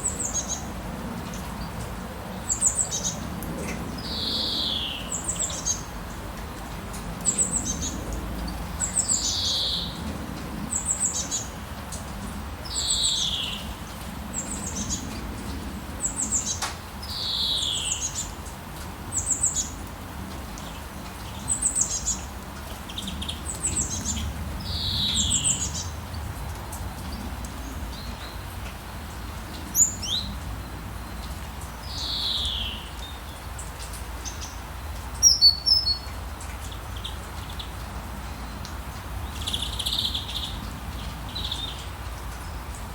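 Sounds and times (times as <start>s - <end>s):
rainfall hiss: 0.0s - 42.9s.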